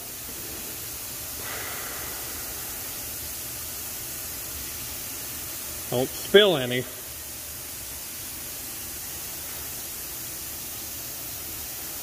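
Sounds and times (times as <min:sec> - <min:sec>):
constant background hiss: 0:00.0 - 0:12.0.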